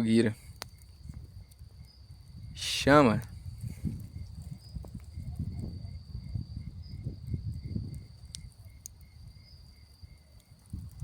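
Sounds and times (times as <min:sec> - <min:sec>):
campfire crackling: 0:00.0 - 0:11.0
insect chirping: 0:00.0 - 0:11.0
insects trilling: 0:00.0 - 0:11.0.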